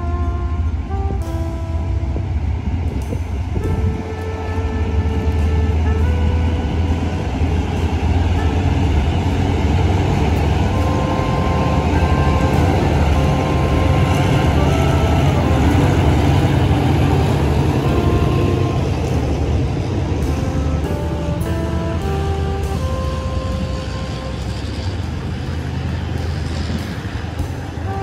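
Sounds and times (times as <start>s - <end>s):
diesel train rumbling: 0.0s - 28.0s.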